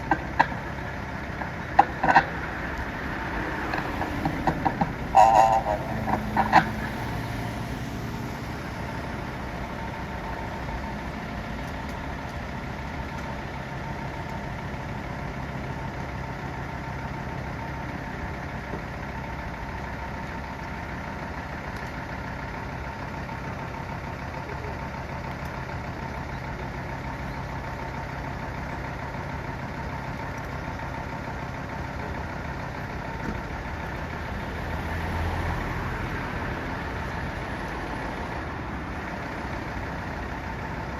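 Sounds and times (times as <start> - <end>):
fire engine idling: 0.0 - 40.9.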